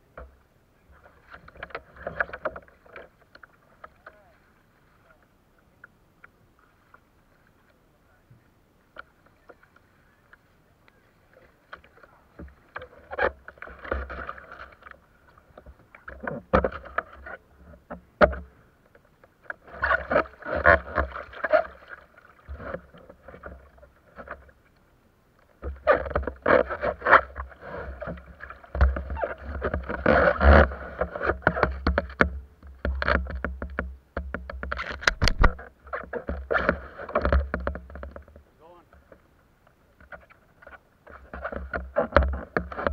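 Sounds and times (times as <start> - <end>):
paddle splashing in water: 0.2 - 5.2, 8.8 - 24.8, 25.5 - 39.2.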